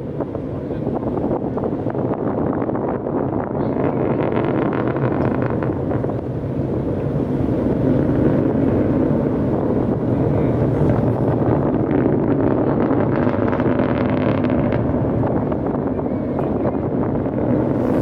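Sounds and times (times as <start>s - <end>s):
distant rocket engines rumbling: 0.0s - 18.0s
wind buffeting microphone: 0.0s - 18.0s.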